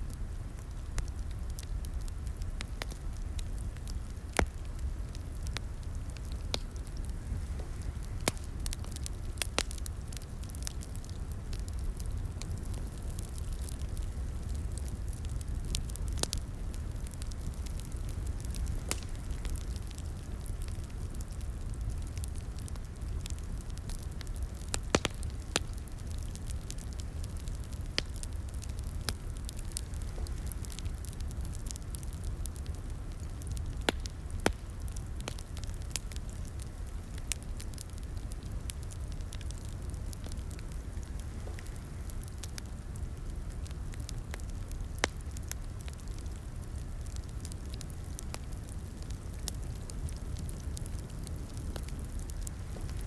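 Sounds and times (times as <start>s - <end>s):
low fire rumble: 0.0s - 53.0s
wood fire crackling and popping: 0.0s - 53.0s.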